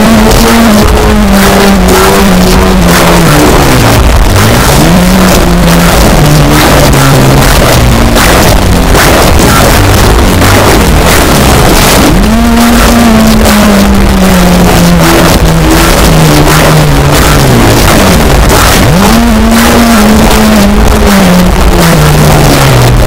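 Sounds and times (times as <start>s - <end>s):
distorted guitar riff: 0.0s - 23.0s
rapid drumming: 0.0s - 23.0s.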